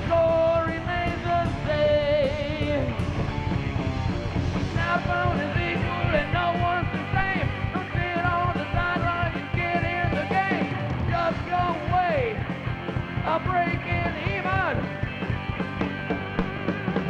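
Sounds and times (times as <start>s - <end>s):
bass guitar: 0.0s - 17.0s
distorted electric guitar: 0.0s - 17.0s
drums: 0.0s - 17.0s.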